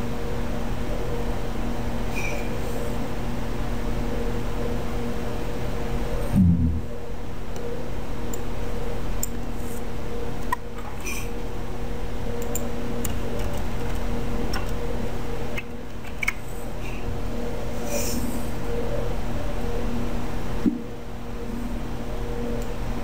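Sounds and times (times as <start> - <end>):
low electrical hum and hiss: 0.0 - 23.0.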